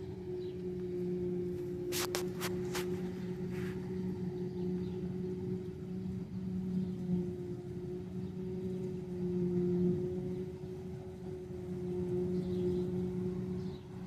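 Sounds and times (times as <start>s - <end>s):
heavy machinery engine droning: 0.0s - 14.0s.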